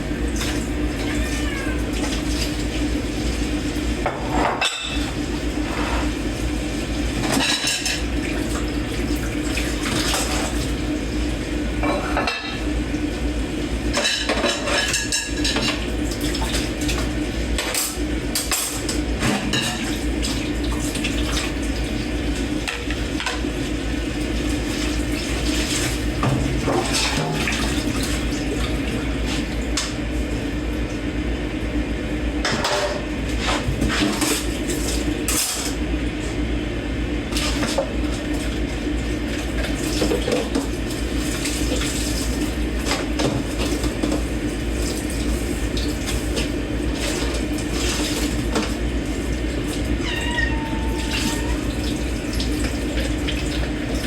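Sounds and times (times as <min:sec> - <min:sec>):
running tap water: 0:00.0 - 0:31.2, 0:33.1 - 0:36.3, 0:37.2 - 0:54.0.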